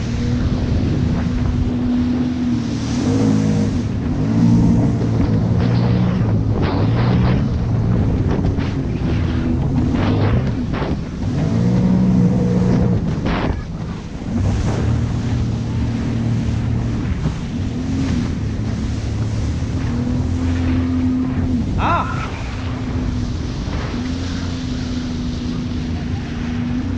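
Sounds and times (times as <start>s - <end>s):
jet ski engine: 0.0s - 26.9s
water slapping against hull: 0.0s - 26.9s
wind buffeting microphone: 0.0s - 26.9s.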